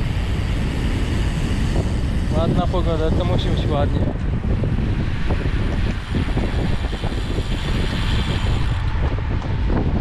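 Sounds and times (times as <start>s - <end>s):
tyre noise on asphalt: 0.0s - 10.0s
wind buffeting microphone: 0.0s - 10.0s.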